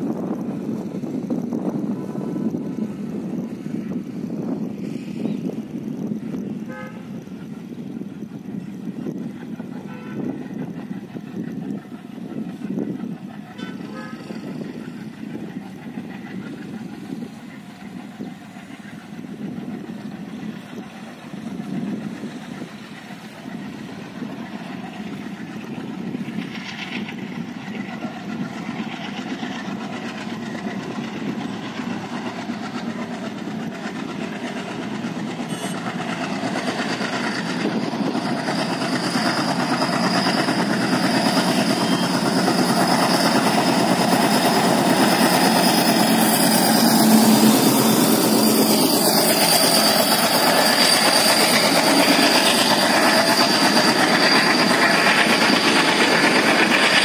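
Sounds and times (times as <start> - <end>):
diesel locomotive chugging: 0.0 - 57.0
steady high whine: 0.0 - 57.0
train coaches running by: 0.0 - 57.0.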